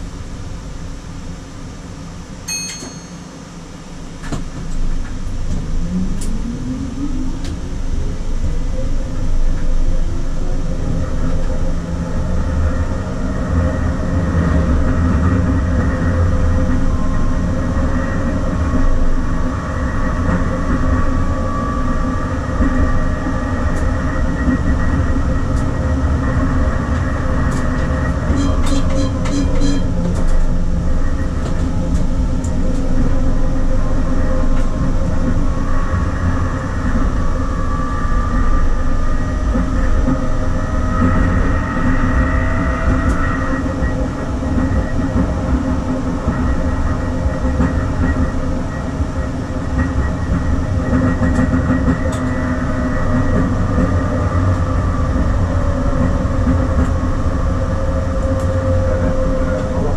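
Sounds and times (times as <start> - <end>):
tram motor whine: 0.0 - 59.9
tram wheels and motors rumbling: 0.0 - 59.9.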